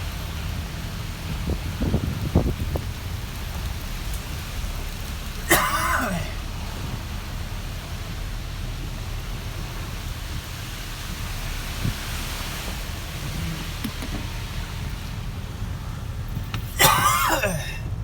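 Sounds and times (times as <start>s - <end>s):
wind buffeting microphone: 0.0s - 5.5s, 6.4s - 16.7s.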